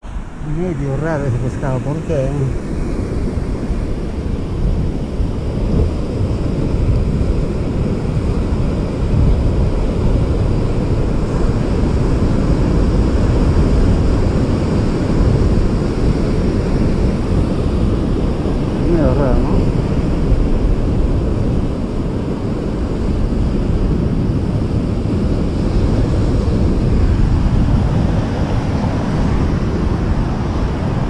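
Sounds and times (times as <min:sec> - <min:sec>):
sea surf on rocks: 0:00.0 - 0:31.0
wind rumbling on microphone: 0:00.0 - 0:31.0.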